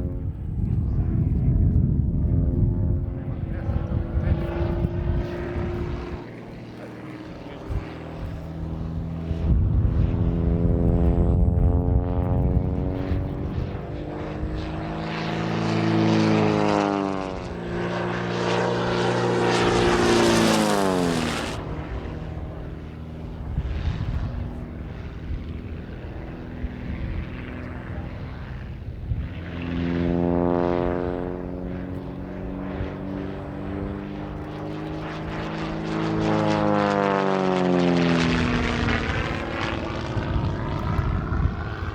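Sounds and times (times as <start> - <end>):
propeller plane engine passing: 0.0 - 41.9.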